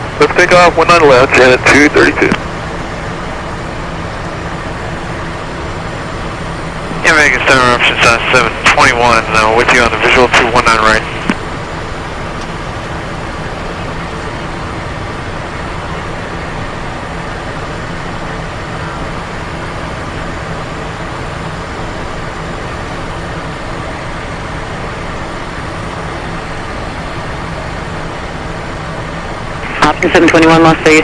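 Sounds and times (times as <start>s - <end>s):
faint constant hum: 0.0s - 31.0s
jet engines and airflow rushing: 0.0s - 31.0s.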